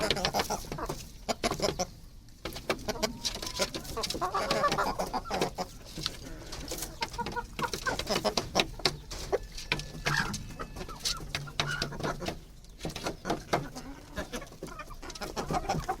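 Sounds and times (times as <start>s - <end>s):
chickens clucking softly: 0.0s - 16.0s.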